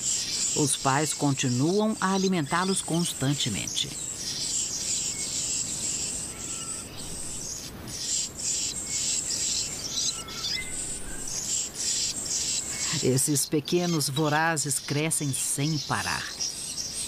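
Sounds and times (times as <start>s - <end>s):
faint bird notes: 0.0s - 17.0s
insects shrill chorus: 0.0s - 17.0s.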